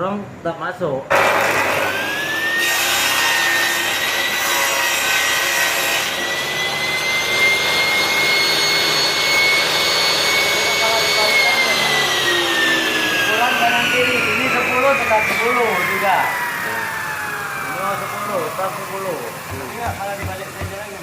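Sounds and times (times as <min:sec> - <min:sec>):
table saw cutting wood: 0:01.1 - 0:21.0.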